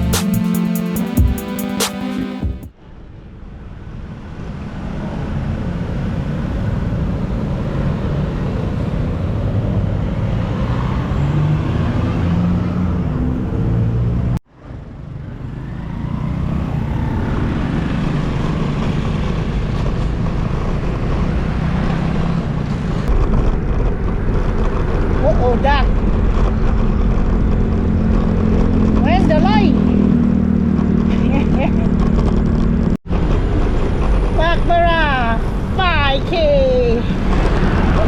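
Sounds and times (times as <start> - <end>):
steady road noise: 0.0 - 38.0
vehicles passing: 0.0 - 38.0.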